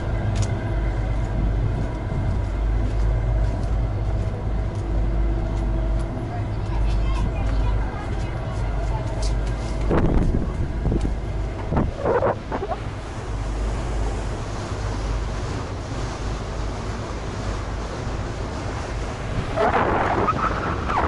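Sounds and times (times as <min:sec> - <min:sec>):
steady low rumble: 0:00.0 - 0:21.0
water rushing past hull: 0:00.0 - 0:21.0
wind buffeting microphone: 0:00.0 - 0:21.0.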